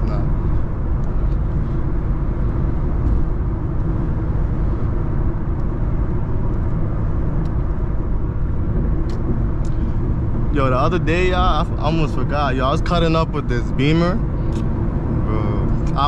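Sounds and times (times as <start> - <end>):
car road noise in cabin: 0.0 - 16.0.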